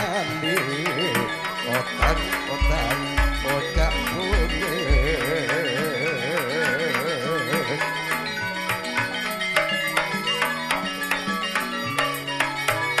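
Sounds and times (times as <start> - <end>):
traditional percussion ensemble: 0.0 - 13.0
wavering melody line: 0.0 - 13.0.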